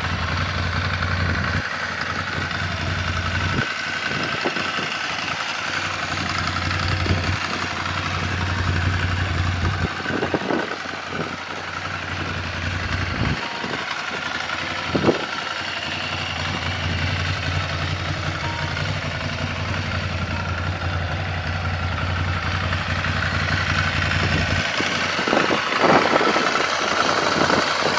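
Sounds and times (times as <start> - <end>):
motorcycle engine idling: 0.0 - 27.9.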